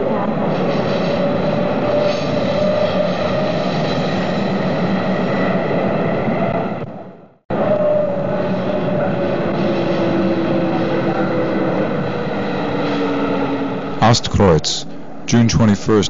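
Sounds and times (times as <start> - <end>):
train rumble with whine: 0.0 - 15.4.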